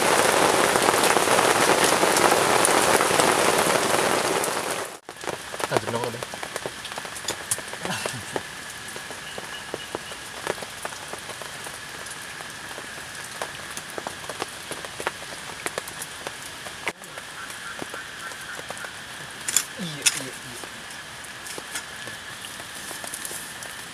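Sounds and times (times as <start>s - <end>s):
rain pattering on tarp: 0.0s - 23.9s.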